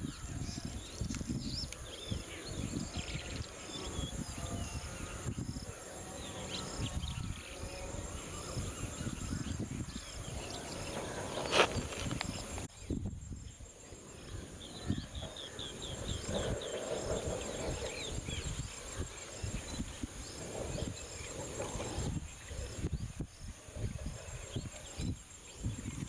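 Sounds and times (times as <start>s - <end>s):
birds chirping: 0.0s - 26.0s
high insect drone: 0.0s - 26.0s
wind rumble on microphone: 0.0s - 26.0s.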